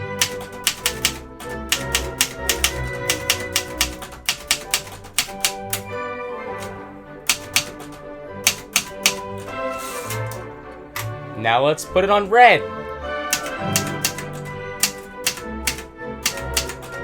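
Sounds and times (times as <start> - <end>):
typewriter key strikes: 0.0 - 11.1, 13.3 - 17.0
background music: 0.0 - 17.0.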